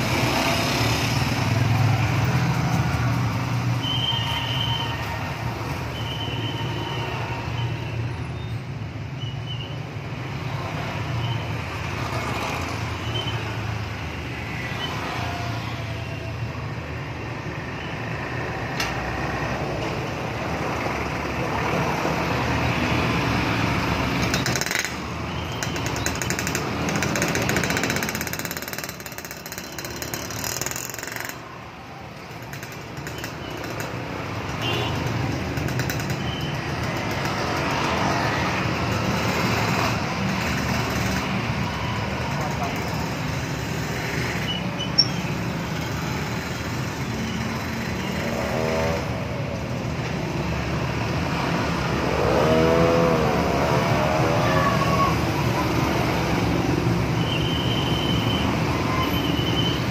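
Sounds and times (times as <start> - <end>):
road noise: 0.0 - 59.9
vehicle engines running: 9.9 - 59.9.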